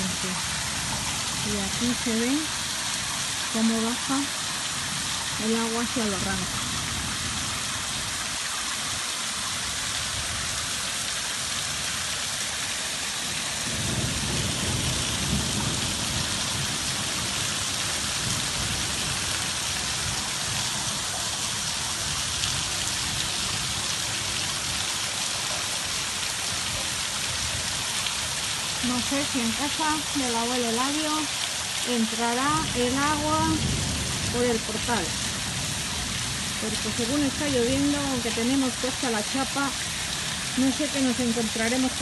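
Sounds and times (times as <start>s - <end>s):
heavy rain on pavement: 0.0s - 42.0s.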